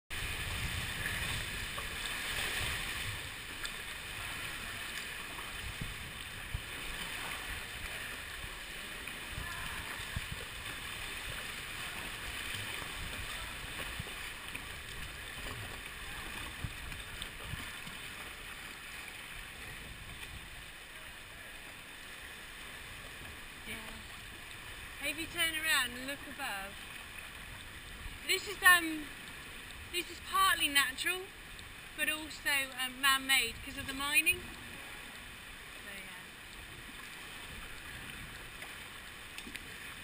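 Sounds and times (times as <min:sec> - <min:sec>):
water sloshing around kayak: 0:00.1 - 0:40.0.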